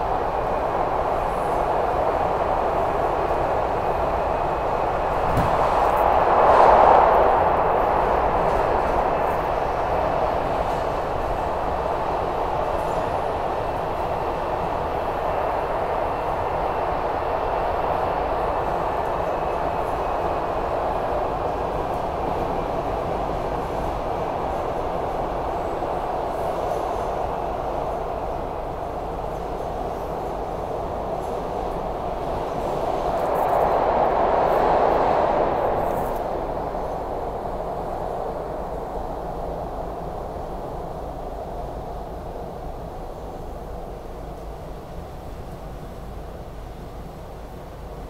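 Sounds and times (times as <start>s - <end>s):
subway wheels rumbling on rail: 0.0s - 48.0s.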